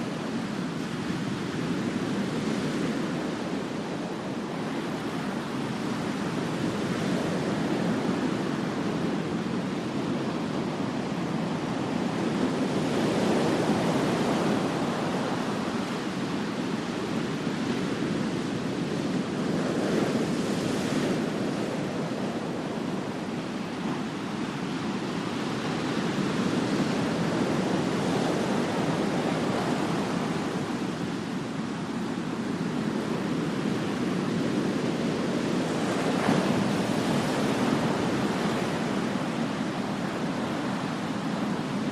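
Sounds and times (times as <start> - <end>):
ocean waves on a beach: 0.0 - 41.9.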